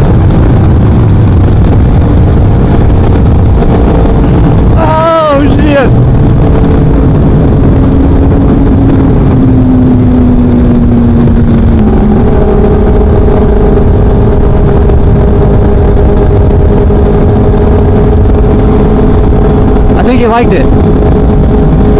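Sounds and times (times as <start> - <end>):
motorcycle engine while riding: 0.0 - 21.9
wind noise: 0.0 - 21.9.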